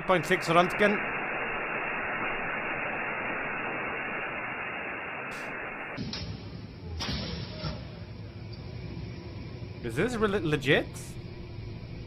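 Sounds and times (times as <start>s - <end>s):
static-like hiss: 0.0s - 12.0s.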